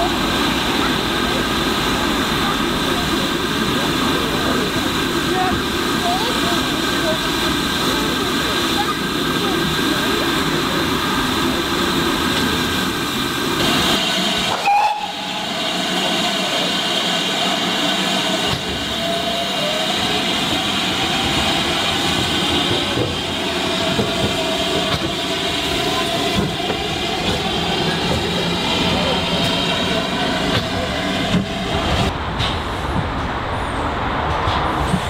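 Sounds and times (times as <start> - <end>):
steam train noise: 0.0 - 35.0.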